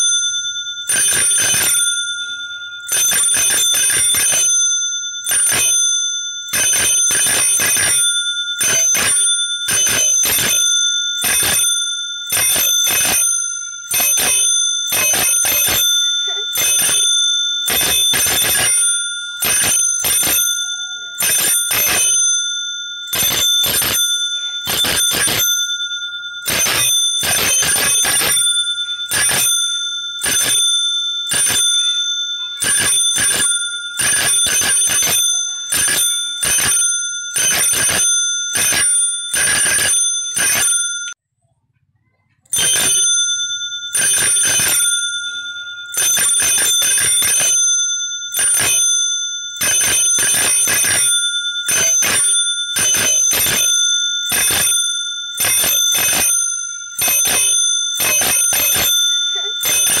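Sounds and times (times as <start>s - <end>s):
bicycle bell ringing: 0.0s - 41.2s, 42.5s - 60.0s.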